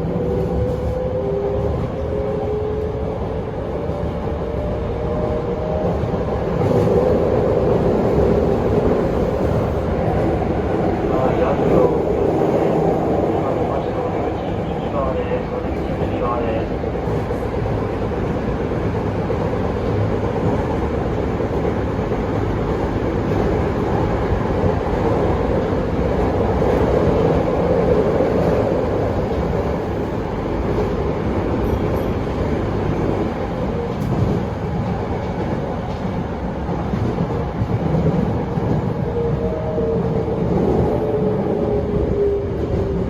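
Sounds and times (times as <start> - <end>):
train rolling on rails: 0.0 - 43.0.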